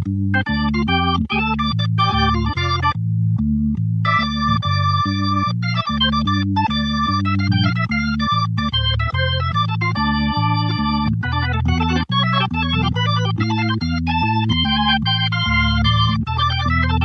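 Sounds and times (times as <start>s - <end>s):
keyboard organ chords: 0.0s - 17.0s.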